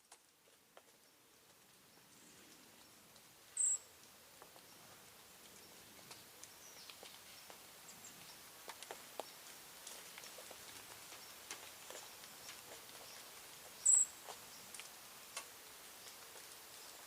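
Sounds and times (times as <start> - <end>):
small clicks and ticks: 0.0 - 1.7, 3.9 - 17.0
soft background hiss: 0.0 - 17.0.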